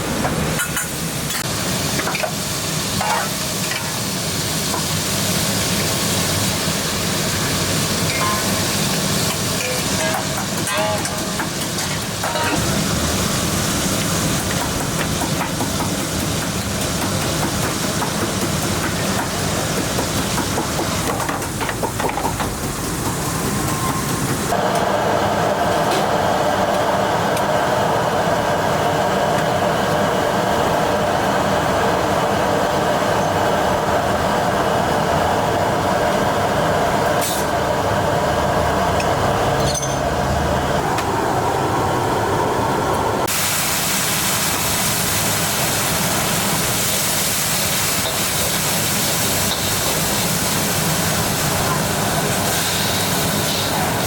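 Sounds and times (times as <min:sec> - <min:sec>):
commercial kitchen roar: 0:00.0 - 0:54.0.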